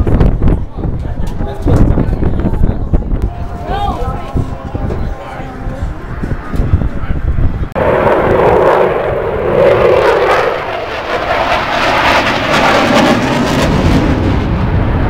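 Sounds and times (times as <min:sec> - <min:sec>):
airplane engine noise: 0:00.0 - 0:15.0.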